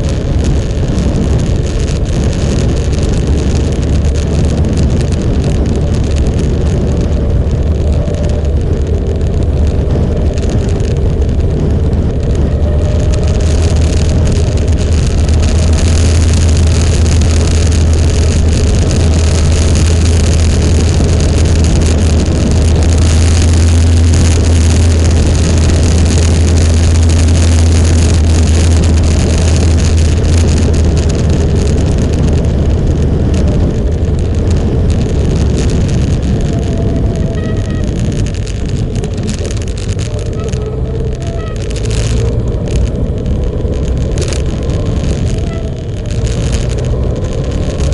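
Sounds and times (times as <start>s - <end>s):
motorcycle engine rumble: 0.0s - 47.9s
wind noise: 0.0s - 47.9s.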